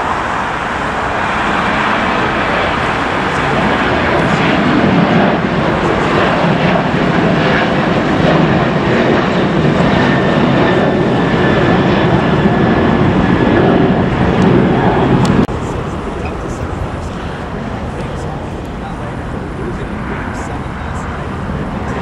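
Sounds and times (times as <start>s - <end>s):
high engine whine: 0.0s - 22.0s
jet engines roaring: 0.0s - 22.0s.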